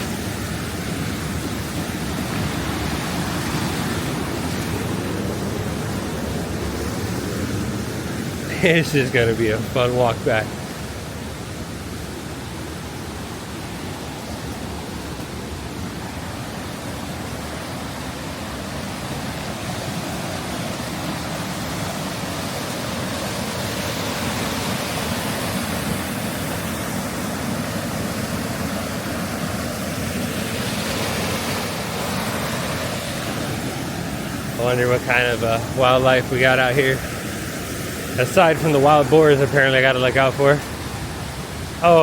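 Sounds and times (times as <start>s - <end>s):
rushing stream and waterfall: 0.0s - 42.0s.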